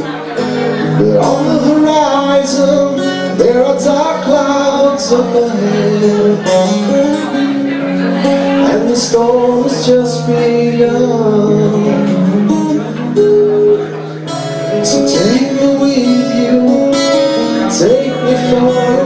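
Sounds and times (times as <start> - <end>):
acoustic guitar: 0.0 - 19.0
man singing into microphone: 0.0 - 19.0.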